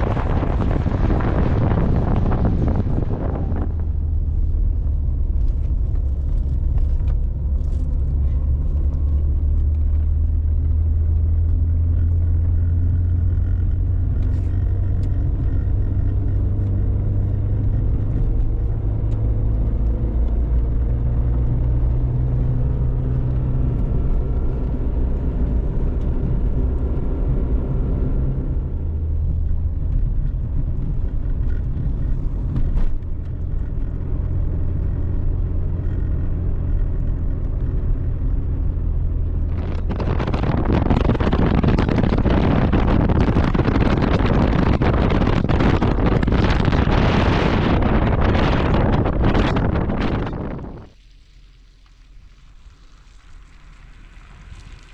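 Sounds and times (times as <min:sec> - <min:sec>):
car engine driving: 0:00.0 - 0:54.9.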